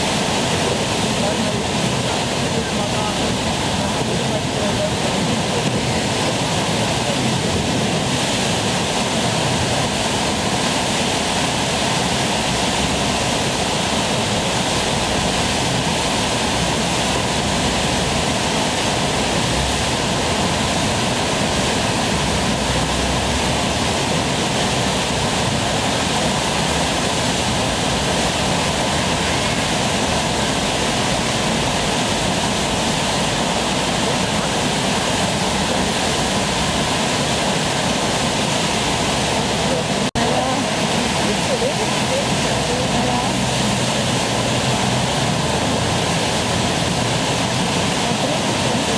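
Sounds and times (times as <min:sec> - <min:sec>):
river whitewater rushing: 0:00.0 - 0:48.9.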